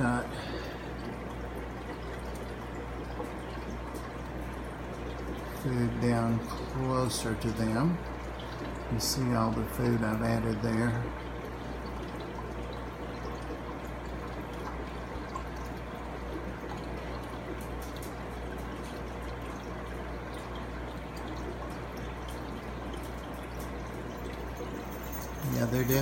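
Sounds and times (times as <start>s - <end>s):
low steady hum: 0.0s - 26.0s
water trickling and dripping: 0.0s - 26.0s.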